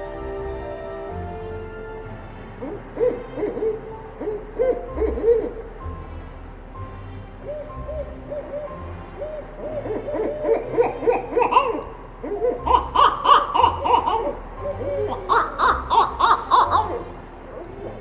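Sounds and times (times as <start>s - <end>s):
owl hooting: 0.0s - 6.4s, 7.4s - 18.0s.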